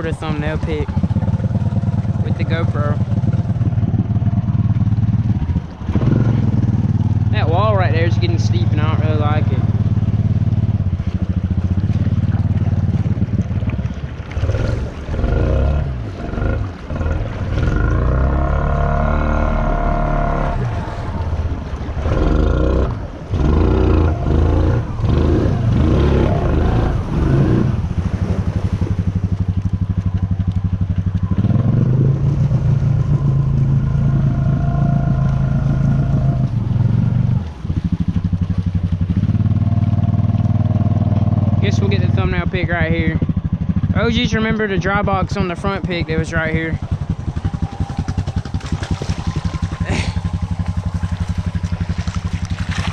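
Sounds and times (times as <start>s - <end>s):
engine revving: 0.0s - 52.9s.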